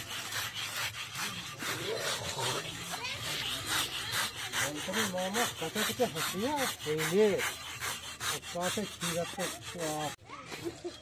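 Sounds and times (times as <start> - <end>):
knives scraping pig skin: 0.0 - 10.2
voices talking: 1.0 - 11.0.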